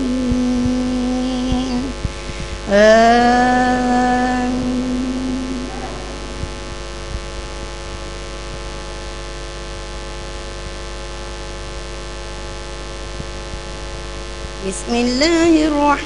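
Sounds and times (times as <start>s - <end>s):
electrical mains hum and hiss: 0.0s - 16.0s.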